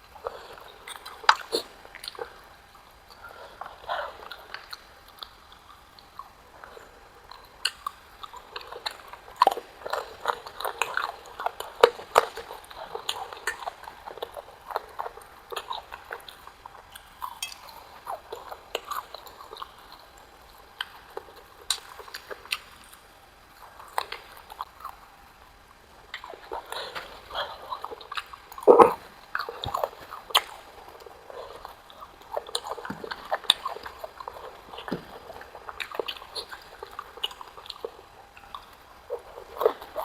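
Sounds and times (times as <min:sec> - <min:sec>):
wet chewing and biting: 0:00.0 - 0:40.0.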